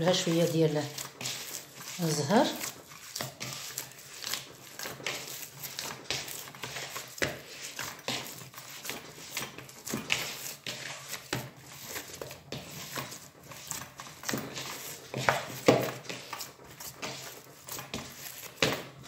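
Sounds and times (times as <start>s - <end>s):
hands kneading paste in bowl: 0.0s - 19.0s.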